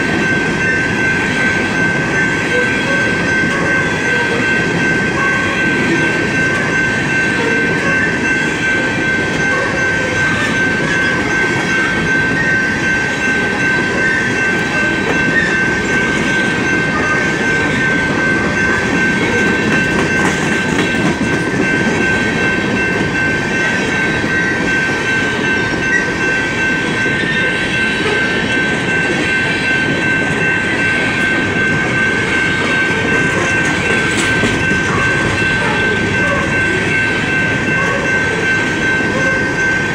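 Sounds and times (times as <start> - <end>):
freight train wheels clattering: 0.0 - 39.9
steady high tone: 0.0 - 39.9.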